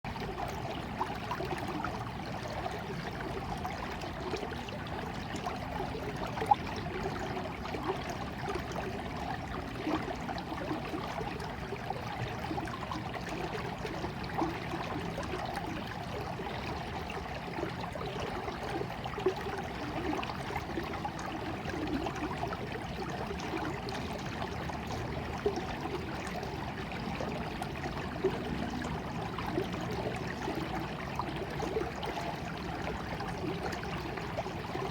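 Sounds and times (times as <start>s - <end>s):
stream water trickling: 0.0s - 34.9s
water splashes: 0.1s - 34.9s.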